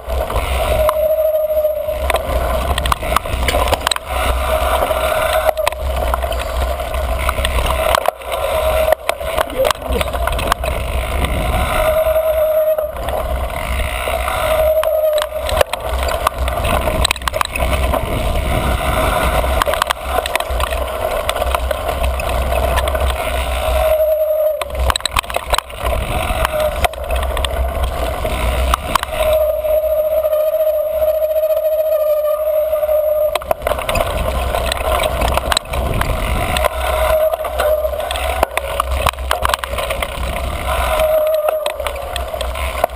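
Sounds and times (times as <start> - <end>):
bike frame and chain rattling: 0.0 - 42.9
bike rolling over dirt trail: 0.0 - 42.9
brake squealing: 0.0 - 42.9
wind on microphone: 0.0 - 42.9.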